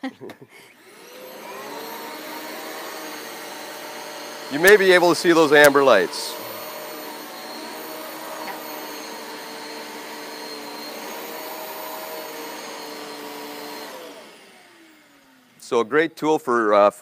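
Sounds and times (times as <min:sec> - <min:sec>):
vacuum cleaner running: 0:00.6 - 0:15.9
vacuum motor winding down: 0:00.8 - 0:15.7.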